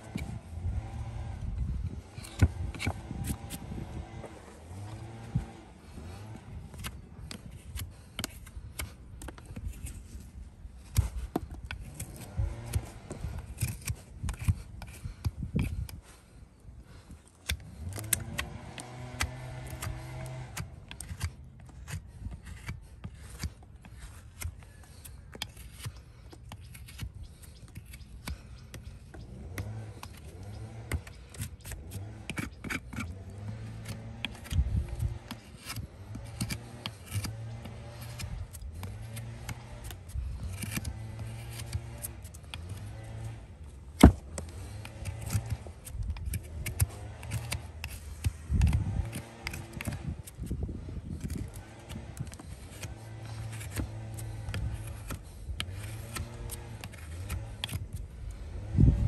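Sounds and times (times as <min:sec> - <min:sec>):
knife scraping horse hoof: 0:00.0 - 0:59.0.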